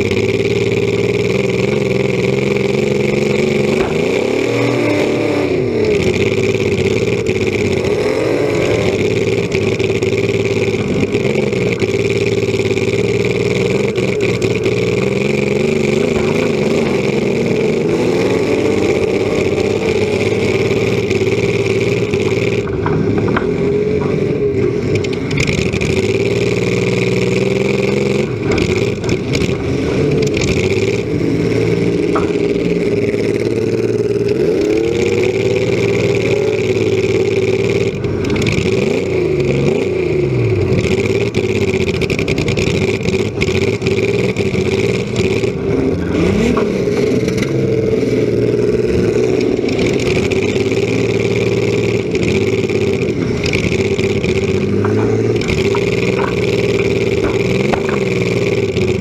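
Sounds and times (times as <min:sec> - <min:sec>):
car engine revving: 0:00.0 - 0:59.0
knocks and clatter: 0:00.1 - 0:39.0, 0:48.7 - 0:59.0.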